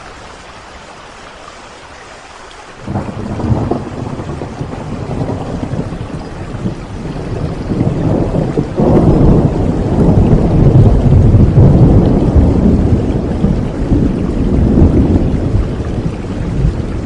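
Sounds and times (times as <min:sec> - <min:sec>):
steady rain: 0:00.0 - 0:17.0
low rumble of thunder: 0:02.8 - 0:17.0.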